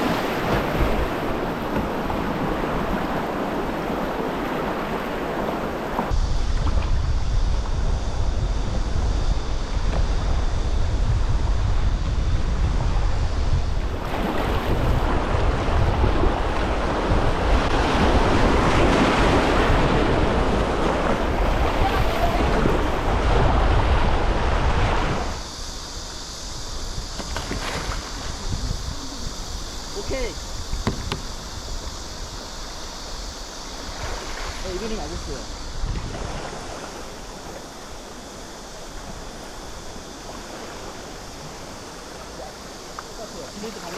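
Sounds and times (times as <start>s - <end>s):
river water running: 0.0s - 7.1s, 13.7s - 43.9s
wind buffeting microphone: 0.0s - 42.0s.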